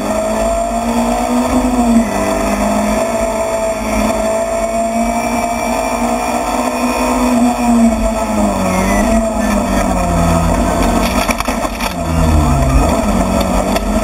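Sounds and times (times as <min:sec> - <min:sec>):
car engine revving hard: 0:00.0 - 0:14.0.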